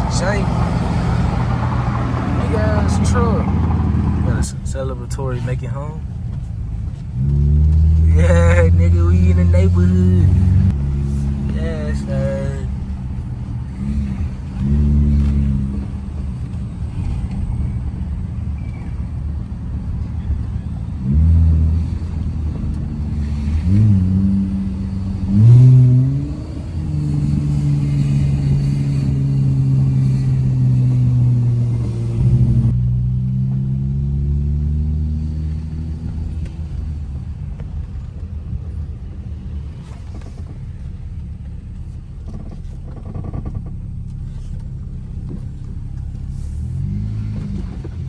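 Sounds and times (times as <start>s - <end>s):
car engine under throttle: 0.0s - 48.0s.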